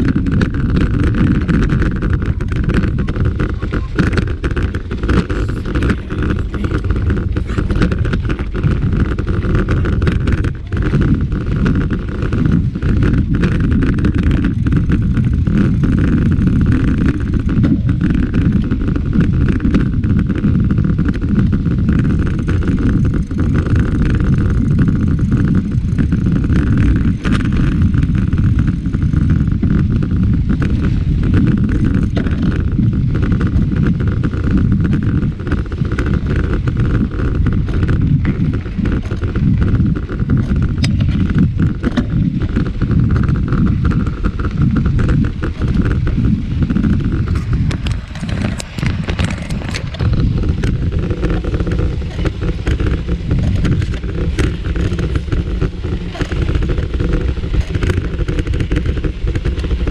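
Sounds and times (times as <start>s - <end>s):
bike rattling over bumps: 0.0s - 59.9s
bike tyres rumbling on dirt: 0.0s - 59.9s
wind on microphone: 0.0s - 59.9s.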